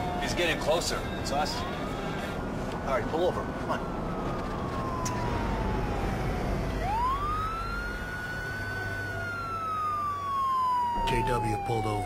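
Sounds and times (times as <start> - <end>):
low vehicle rumble: 0.0 - 12.0
police siren wailing: 0.0 - 12.0.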